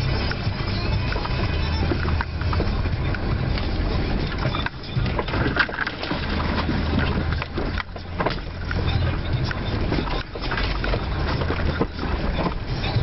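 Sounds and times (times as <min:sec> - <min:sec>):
off-road engine running: 0:00.0 - 0:13.0.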